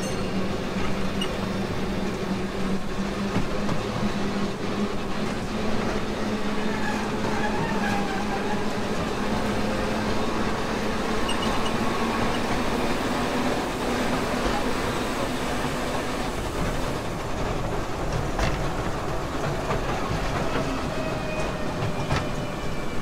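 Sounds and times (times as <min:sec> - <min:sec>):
ride train wheels rumbling on rail: 0:00.0 - 0:23.0.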